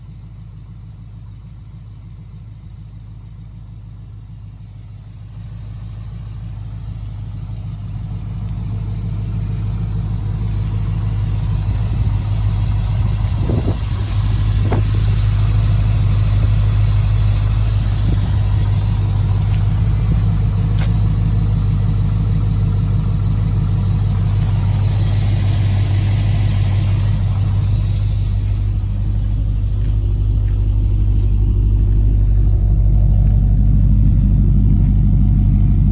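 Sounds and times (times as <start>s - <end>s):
car engine running steadily: 0.0s - 35.9s.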